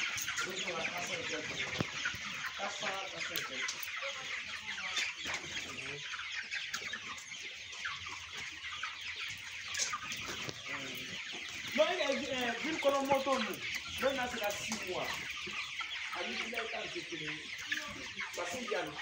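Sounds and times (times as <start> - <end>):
chickens peeping and clucking: 0.0 - 19.0.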